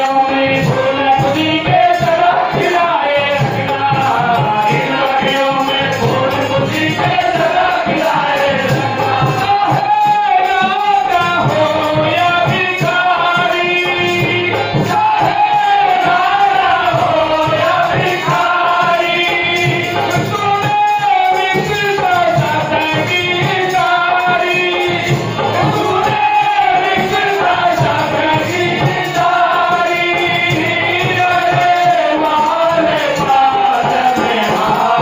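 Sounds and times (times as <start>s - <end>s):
drum: 0.0s - 35.0s
jingling percussion: 0.0s - 35.0s
man singing into a microphone: 0.0s - 35.0s.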